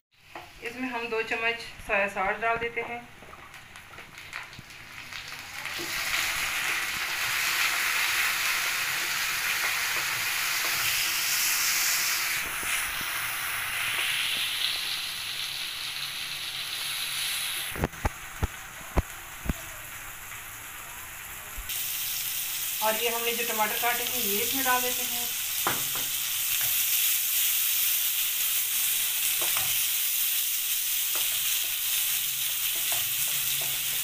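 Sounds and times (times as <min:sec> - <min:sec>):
vegetables sizzling in oil: 0:00.2 - 0:34.0.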